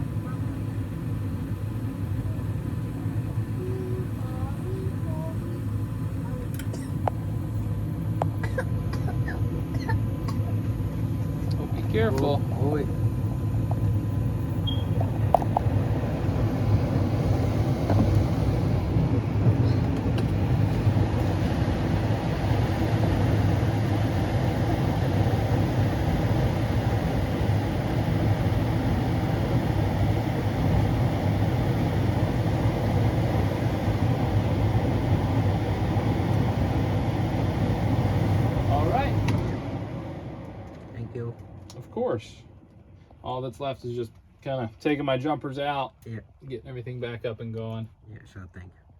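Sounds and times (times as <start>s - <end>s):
furnace burner and blower rumble: 0.0s - 48.9s.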